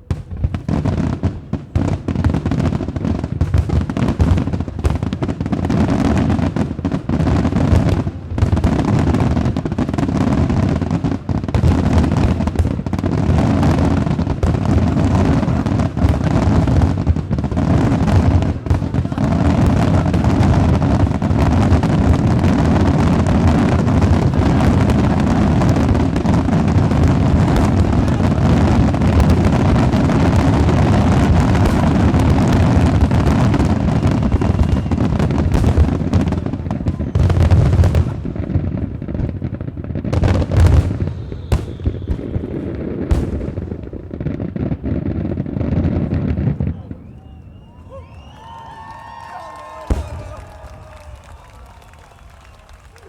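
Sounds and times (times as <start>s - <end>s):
firework bangs and crackling: 0.0s - 53.0s.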